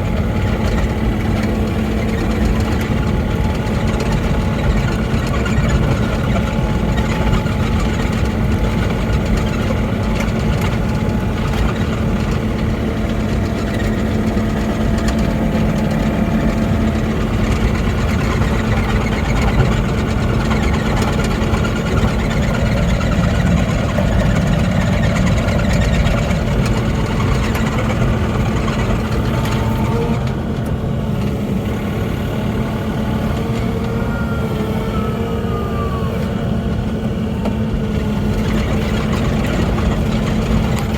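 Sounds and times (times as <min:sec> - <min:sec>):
excavator engine humming: 0:00.0 - 0:40.9.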